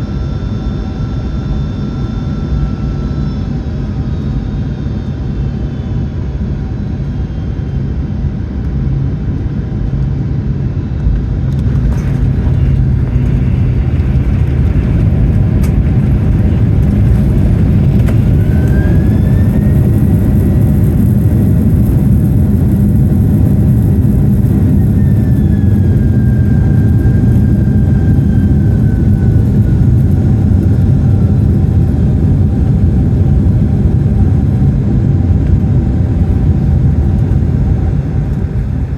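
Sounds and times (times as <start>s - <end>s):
airplane engines droning: 0.0s - 38.9s
jet engine whine: 0.0s - 38.9s
wheels rumbling on runway: 3.4s - 38.9s.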